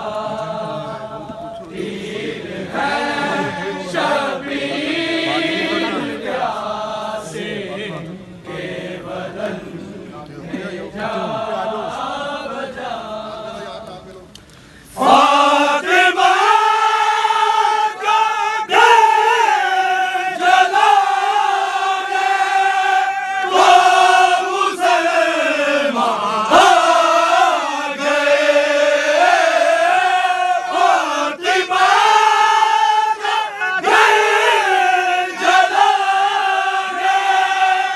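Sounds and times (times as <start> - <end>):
men chanting in unison: 0.0 - 14.1, 15.0 - 37.9.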